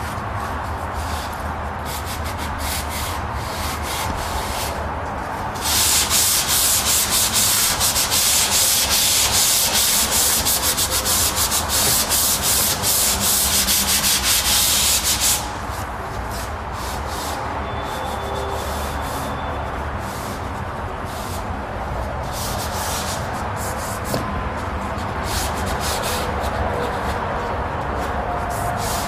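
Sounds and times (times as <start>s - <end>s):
sandpaper rubbing on wall: 0.0s - 4.9s, 5.5s - 29.0s.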